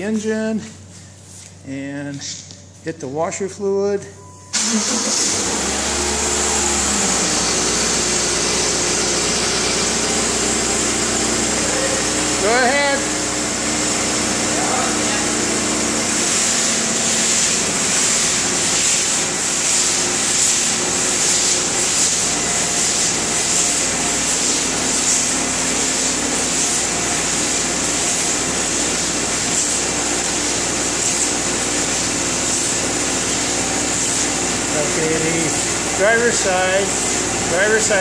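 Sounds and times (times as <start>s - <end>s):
engine running: 4.5s - 38.0s
washer fluid spraying: 4.5s - 38.0s.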